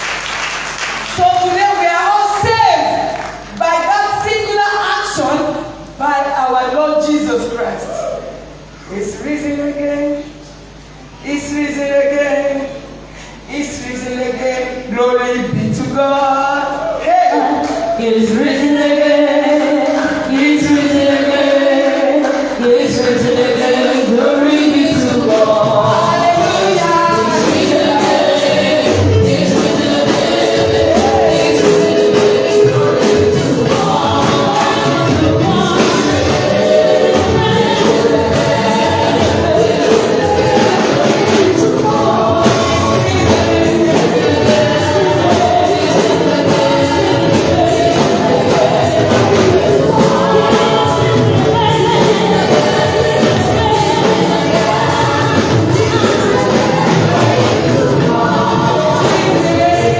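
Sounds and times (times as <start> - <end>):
rhythmic band accompaniment: 0.0 - 6.0, 15.4 - 59.9
choir singing gospel: 0.0 - 59.9.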